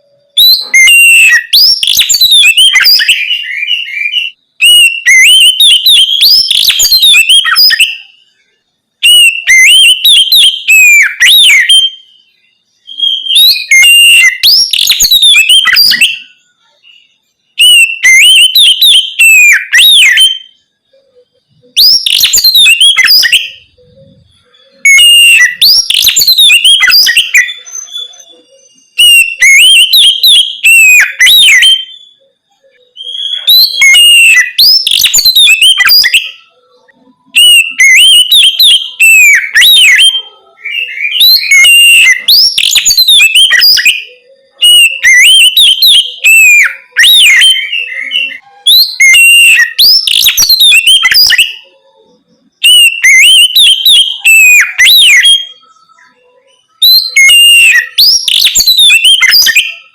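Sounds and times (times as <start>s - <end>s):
bird singing whistled phrases: 0.0s - 59.9s.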